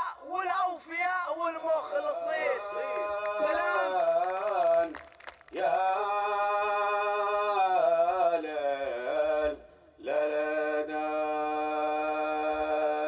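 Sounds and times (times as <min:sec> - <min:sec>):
man singing unaccompanied: 0:01.6 - 0:05.0, 0:05.6 - 0:13.0.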